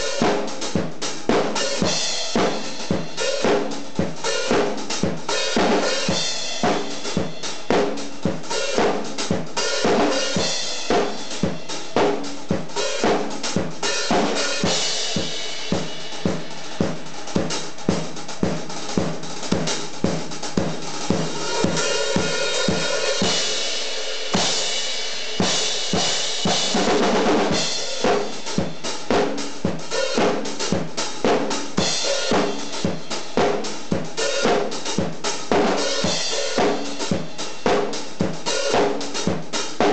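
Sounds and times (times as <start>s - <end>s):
band track: 0.0s - 39.9s
rock drum kit: 0.0s - 39.9s.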